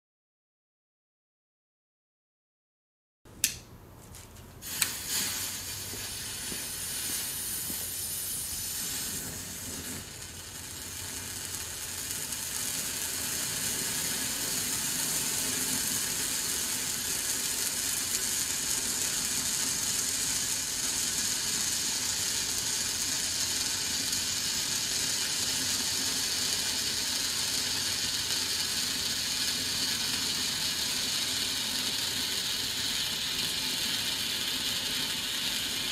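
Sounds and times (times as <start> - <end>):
fire torch burning with hiss: 4.6 - 35.9.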